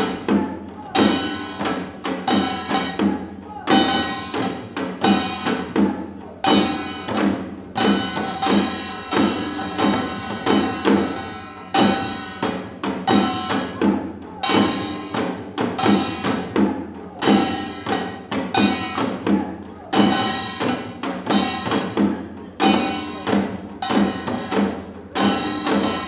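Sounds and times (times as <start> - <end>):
drums in repeating rhythm: 0.0 - 26.0.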